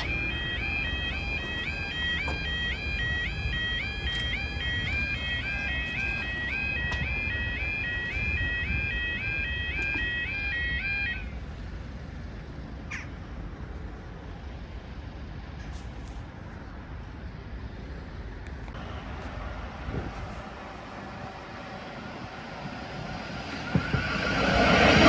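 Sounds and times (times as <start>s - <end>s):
road vehicles rumbling: 0.0s - 25.0s
train passing: 0.0s - 25.0s.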